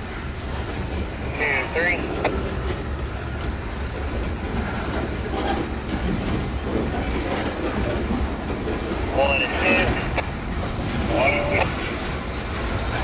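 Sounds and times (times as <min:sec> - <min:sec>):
rail clacks: 0:00.0 - 0:13.0
steel wheels rumbling on rails: 0:00.0 - 0:13.0.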